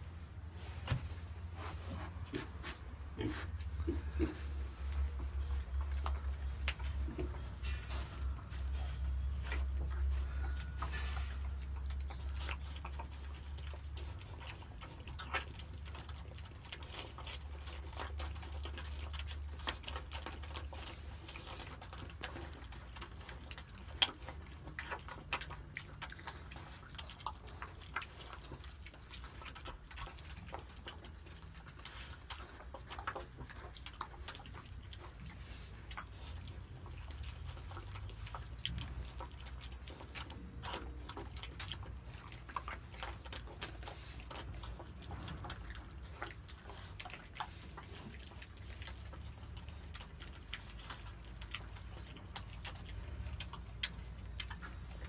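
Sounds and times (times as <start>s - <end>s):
pigs smacking and chewing: 0.0s - 55.0s.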